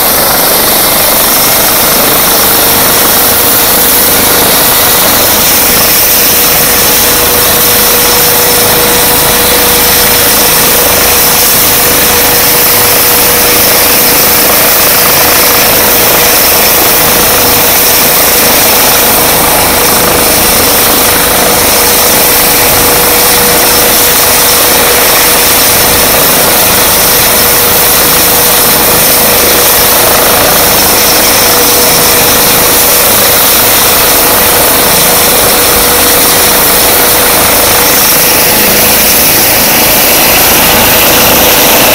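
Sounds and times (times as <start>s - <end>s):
helicopter rotor rushing noise: 0.0s - 41.9s
helicopter turbine whine: 0.0s - 41.9s.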